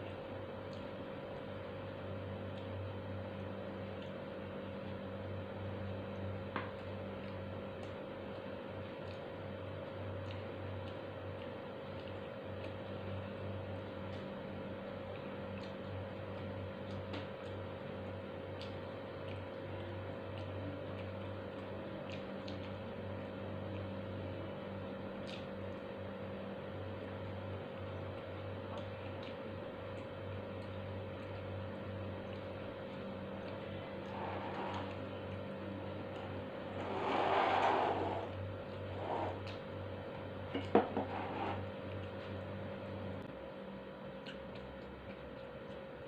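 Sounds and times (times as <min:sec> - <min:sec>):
small clicks from eating: 0:00.0 - 0:36.9, 0:38.2 - 0:40.8, 0:41.5 - 0:46.0
chewing: 0:00.0 - 0:37.0, 0:38.2 - 0:40.7, 0:41.5 - 0:46.0
room noise hum and hiss: 0:00.0 - 0:46.0.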